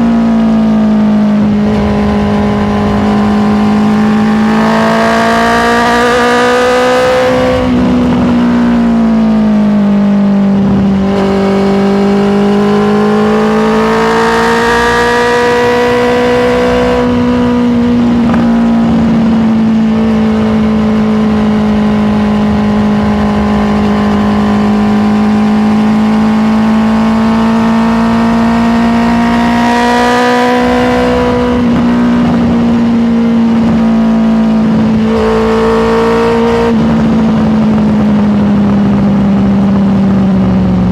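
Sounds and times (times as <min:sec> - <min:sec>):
motorcycle engine running: 0:00.0 - 0:40.9
wind rush: 0:01.0 - 0:40.9.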